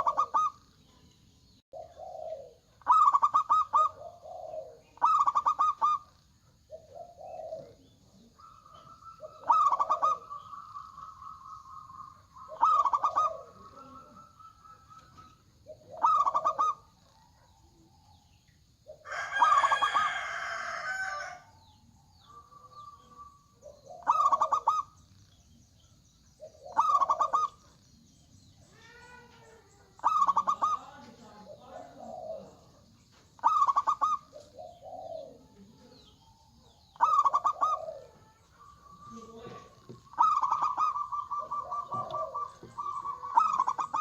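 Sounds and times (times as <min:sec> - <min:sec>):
dove cooing: 0:00.0 - 0:00.7, 0:01.7 - 0:25.5, 0:26.3 - 0:44.0.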